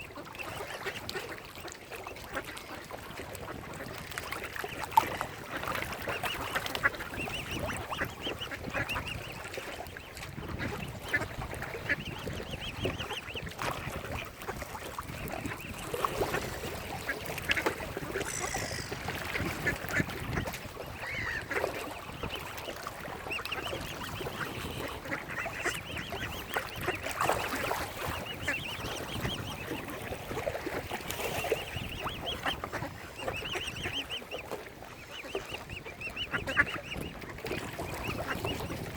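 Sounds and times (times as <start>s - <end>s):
ducks quacking and honking: 5.4s - 30.3s, 31.7s - 38.8s.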